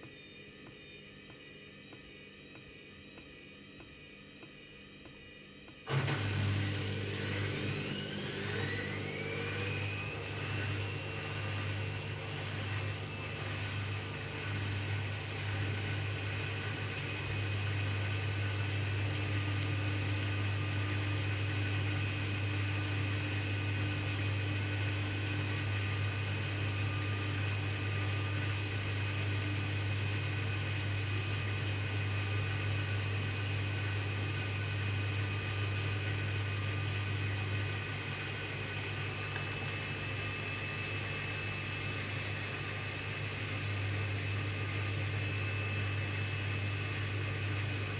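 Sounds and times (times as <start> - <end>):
drum motor hum and whine: 0.0 - 47.9
washing machine spinning: 5.8 - 47.9.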